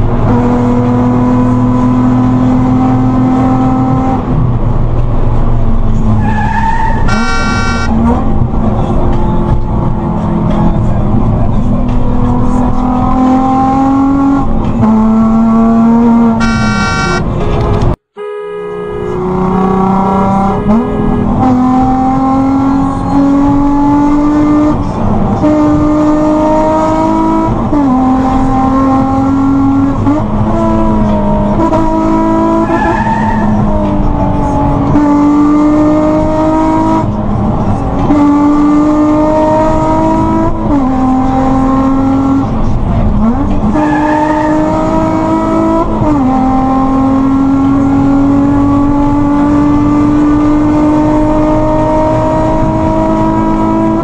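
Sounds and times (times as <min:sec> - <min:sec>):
racing car engine revving: 0:00.0 - 0:18.0, 0:18.7 - 0:54.0.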